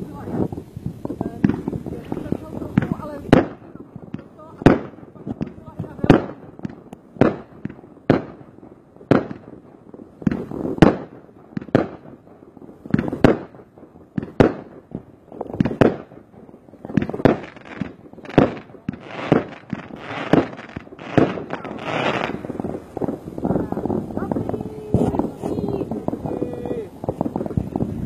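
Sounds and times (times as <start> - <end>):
fireworks bangs echoing: 0.0 - 28.0
fireworks crackling: 0.0 - 28.0.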